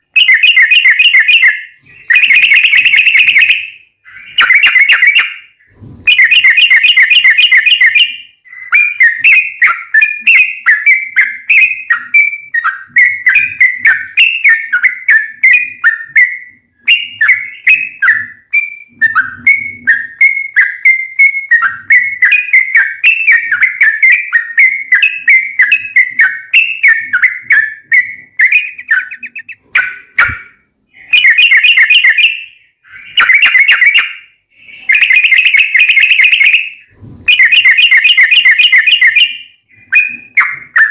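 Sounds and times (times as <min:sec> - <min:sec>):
bulbul song: 0:00.0 - 0:40.9.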